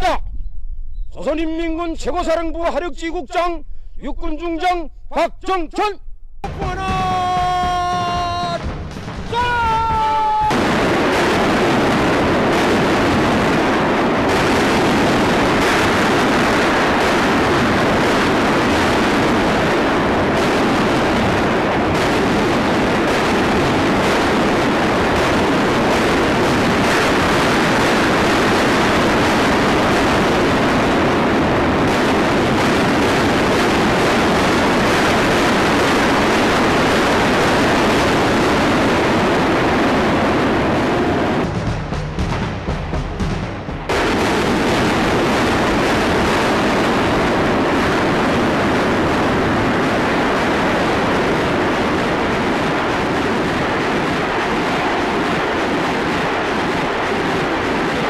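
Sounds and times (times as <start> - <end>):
artillery barrage rumble: 6.4 - 58.0.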